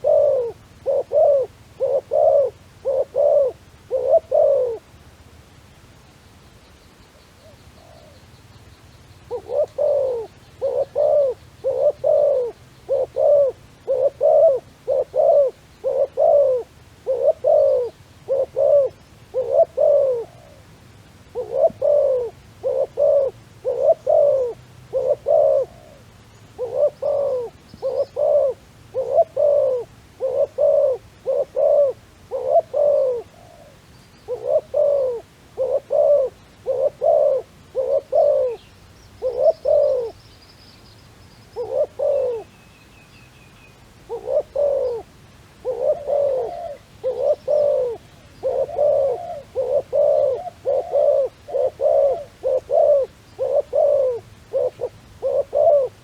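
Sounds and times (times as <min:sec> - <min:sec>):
dove cooing: 0:00.0 - 0:05.0, 0:07.4 - 0:08.2, 0:09.2 - 0:40.2, 0:41.5 - 0:42.6, 0:44.0 - 0:56.0.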